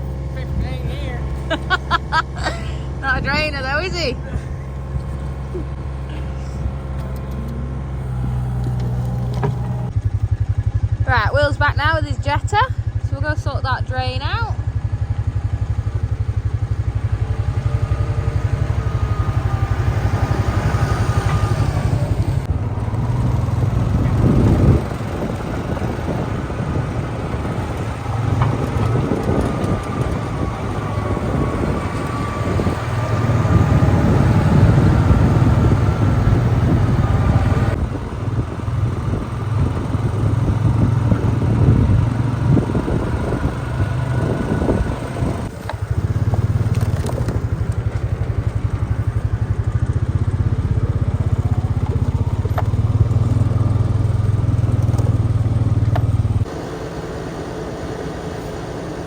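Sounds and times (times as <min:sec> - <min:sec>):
engine rumbling: 0:00.0 - 0:59.0.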